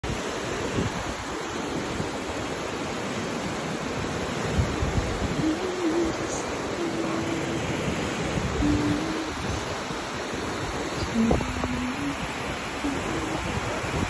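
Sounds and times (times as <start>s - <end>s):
wind rumble on microphone: 0.0s - 2.6s, 3.3s - 14.0s
ocean surf breaking: 0.0s - 14.0s.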